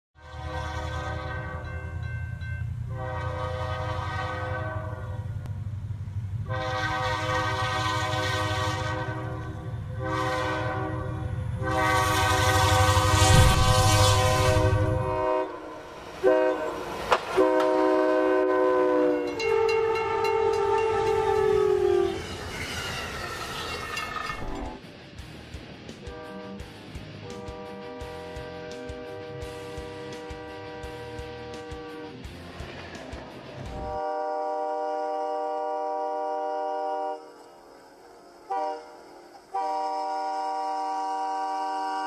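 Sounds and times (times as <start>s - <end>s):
train air horn blasts: 0.2s - 2.0s, 2.9s - 5.5s, 6.4s - 22.4s, 26.0s - 32.2s, 33.7s - 42.0s
moving train rumble: 0.2s - 42.0s.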